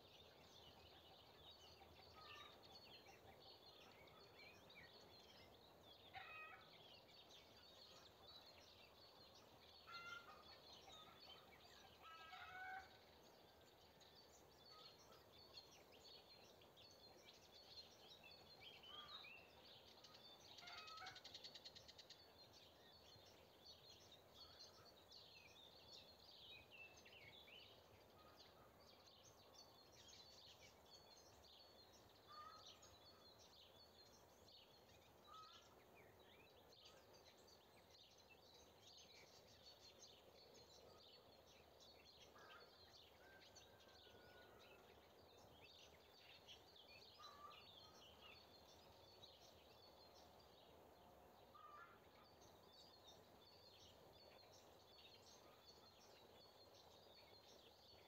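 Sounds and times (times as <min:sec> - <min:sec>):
low background noise: 0:00.0 - 0:58.0
small birds chirping: 0:00.0 - 0:58.0.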